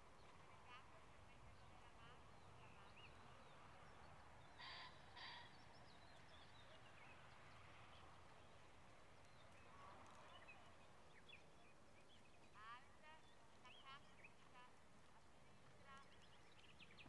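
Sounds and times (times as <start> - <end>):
distant small birds chirping: 0.0 - 17.0.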